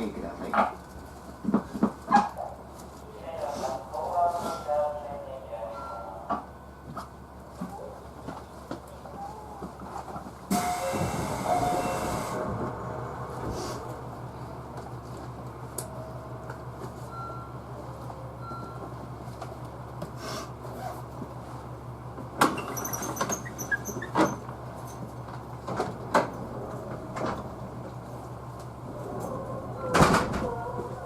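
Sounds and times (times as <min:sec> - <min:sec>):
train car low hum: 0:00.0 - 0:31.0.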